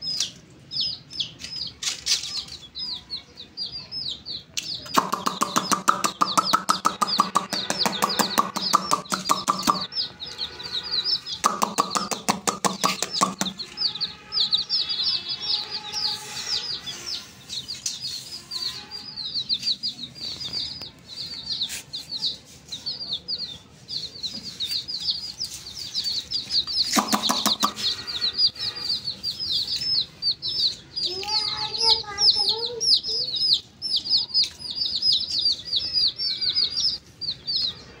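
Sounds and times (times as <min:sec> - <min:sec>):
chicks peeping: 0:00.0 - 0:38.0.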